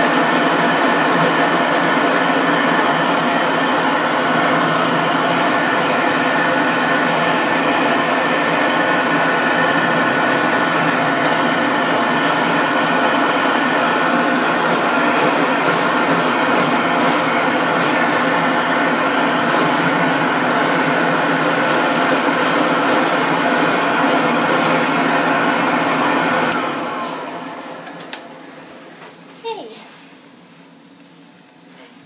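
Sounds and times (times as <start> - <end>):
dog grooming dryer running: 0.0 - 29.7.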